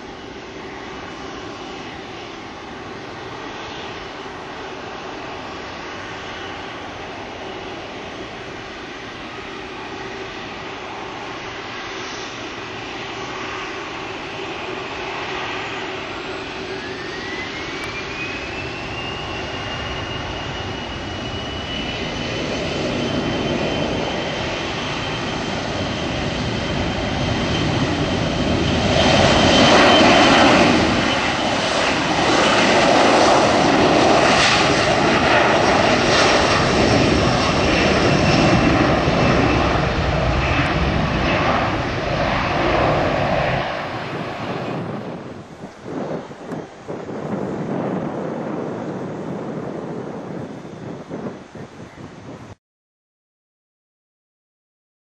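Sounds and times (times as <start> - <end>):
jet engine high whine: 0.0 - 52.6
jet roar on takeoff: 0.0 - 52.6.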